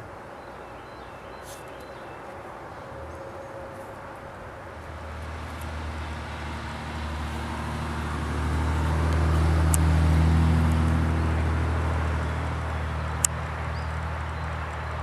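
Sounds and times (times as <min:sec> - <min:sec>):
vehicle passing: 0:02.5 - 0:15.0.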